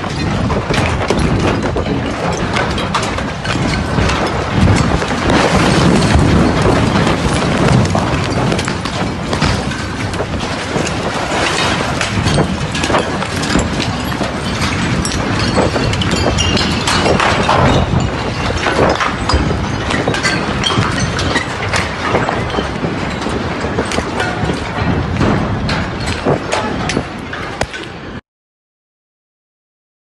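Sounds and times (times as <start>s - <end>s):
explosion rumbling roar: 0.0s - 27.4s
debris knocks and clatters: 0.0s - 28.2s.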